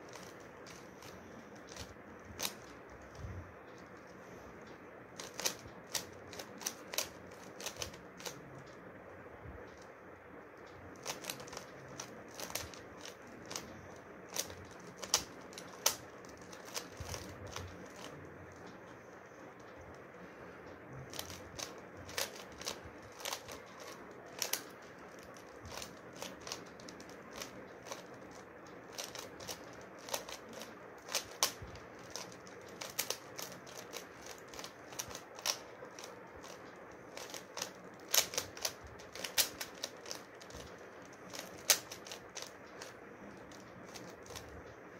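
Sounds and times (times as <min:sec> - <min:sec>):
faint steady hiss: 0:00.0 - 0:44.9
puzzle cube layers clicking: 0:00.1 - 0:03.8, 0:05.2 - 0:08.8, 0:10.7 - 0:18.9, 0:21.0 - 0:44.8.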